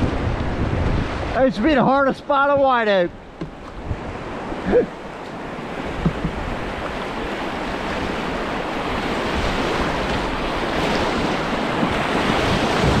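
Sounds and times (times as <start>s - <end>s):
rushing whitewater: 0.0s - 13.0s.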